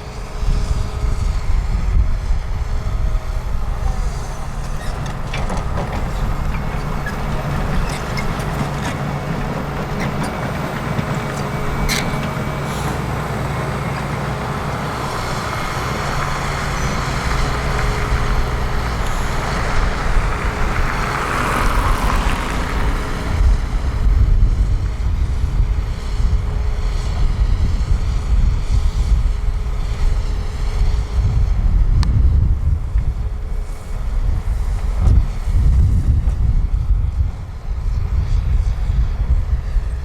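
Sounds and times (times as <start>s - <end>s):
diesel construction machinery running: 0.0s - 40.0s
heavy uneven low rumble: 0.0s - 40.0s.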